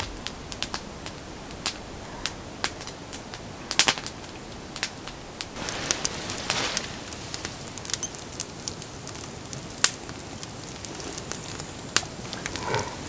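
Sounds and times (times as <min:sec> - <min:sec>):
campfire crackling and popping: 0:00.0 - 0:13.0
low hiss: 0:00.0 - 0:13.0.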